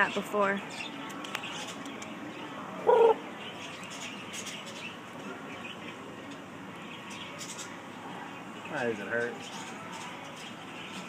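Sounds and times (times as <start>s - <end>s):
faint bird chirping: 0.6s - 11.0s.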